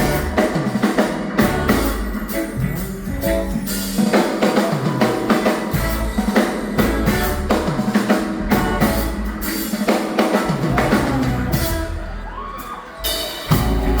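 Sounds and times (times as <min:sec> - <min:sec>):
bass notes: 0:00.0 - 0:04.2, 0:04.8 - 0:09.8, 0:10.4 - 0:12.4, 0:13.5 - 0:14.0
drum kit beat: 0:00.0 - 0:14.0.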